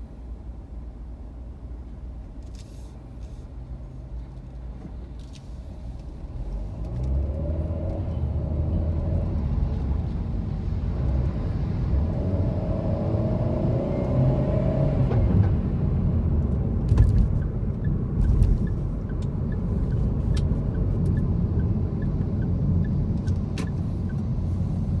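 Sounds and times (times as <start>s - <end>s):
road rumble: 0.0s - 25.0s.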